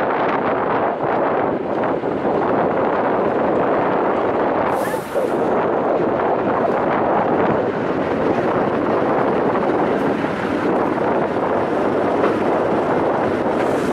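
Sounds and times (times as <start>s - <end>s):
truck engine roaring: 0.1s - 13.9s.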